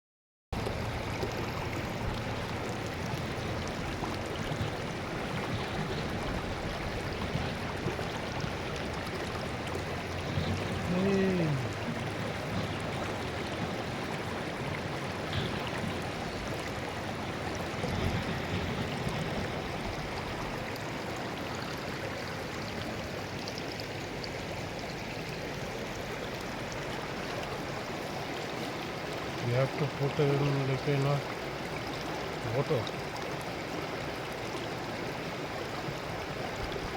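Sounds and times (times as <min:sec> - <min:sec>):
stream flowing: 0:00.6 - 0:36.9.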